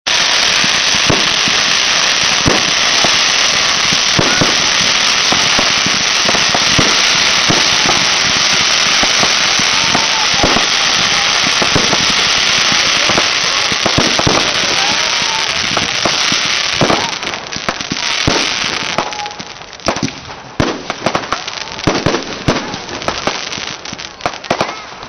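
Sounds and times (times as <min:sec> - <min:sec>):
fireworks bangs and pops: 0:00.0 - 0:25.0
fireworks crackling hiss: 0:00.1 - 0:25.0.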